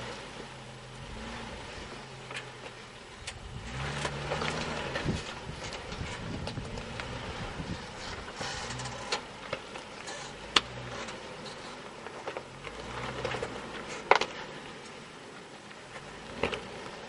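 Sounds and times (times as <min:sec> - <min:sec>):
faint engine hum: 0:00.0 - 0:17.0.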